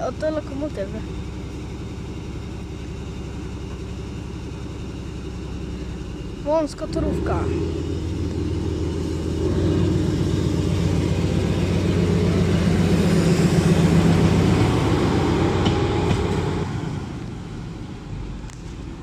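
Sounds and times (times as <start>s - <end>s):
diesel locomotive engine passing: 0.0s - 19.0s.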